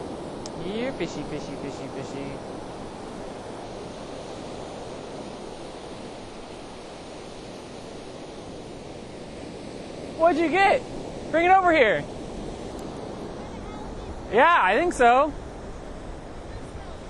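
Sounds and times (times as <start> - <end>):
ocean surf on beach: 0.0 - 17.0.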